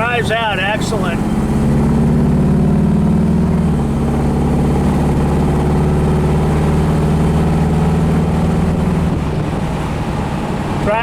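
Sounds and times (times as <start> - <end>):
car engine running while driving: 0.0 - 11.0.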